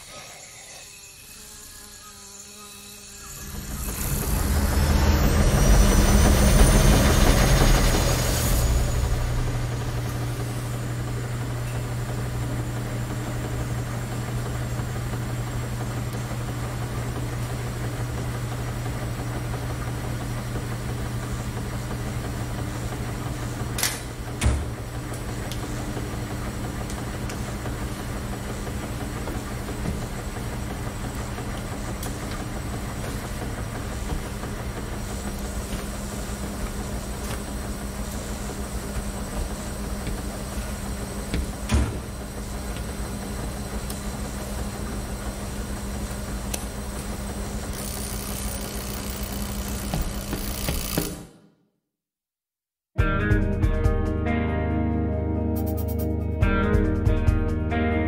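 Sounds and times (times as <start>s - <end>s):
washing machines humming: 0.0s - 51.5s.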